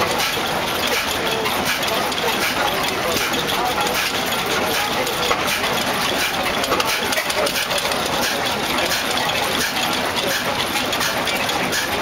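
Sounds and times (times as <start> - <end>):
oil engine running with metallic clatter: 0.0 - 12.0.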